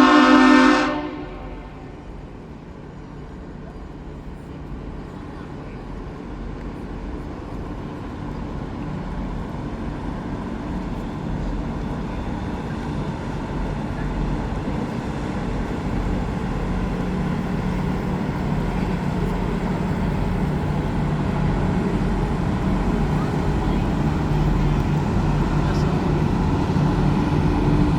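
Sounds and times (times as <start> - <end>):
ship engine rumbling: 0.0 - 27.9.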